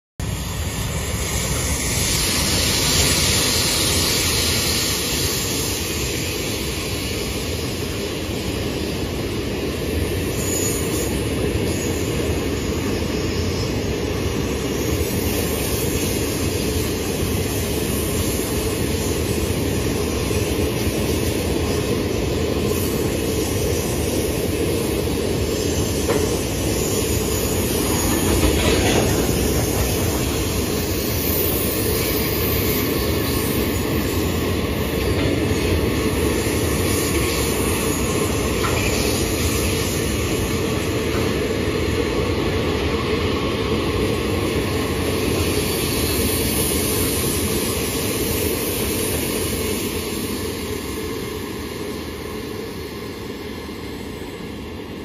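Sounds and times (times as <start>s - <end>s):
freight train rumbling past: 0.2s - 55.0s.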